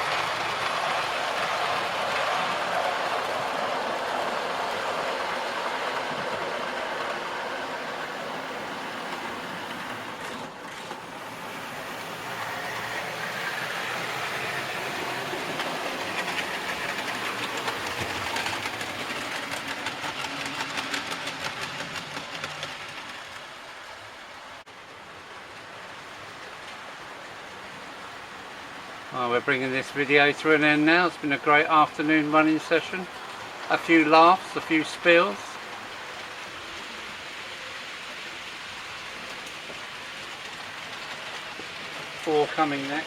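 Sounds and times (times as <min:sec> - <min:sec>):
model train wheels clicking: 0:00.0 - 0:23.7, 0:30.1 - 0:43.0.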